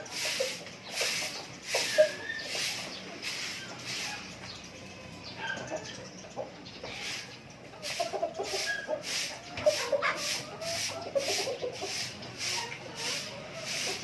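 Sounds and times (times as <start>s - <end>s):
repeating high hissing noise: 0.0s - 4.4s, 7.0s - 14.0s
chickens clucking: 0.0s - 14.0s.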